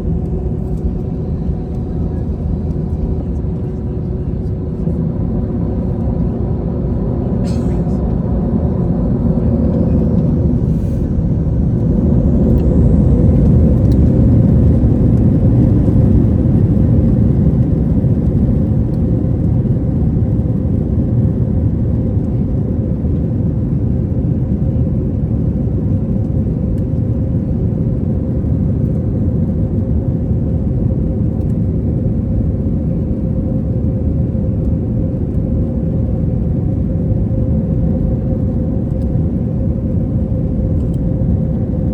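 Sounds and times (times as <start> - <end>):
constant cabin hum: 0.0 - 41.9
jet engine and airflow rumble: 0.0 - 41.9.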